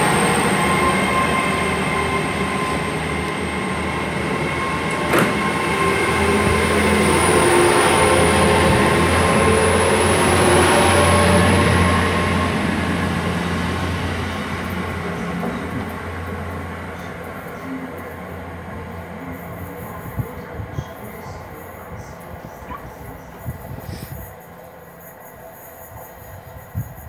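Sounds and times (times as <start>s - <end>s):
train diesel engine drone: 0.0s - 27.0s.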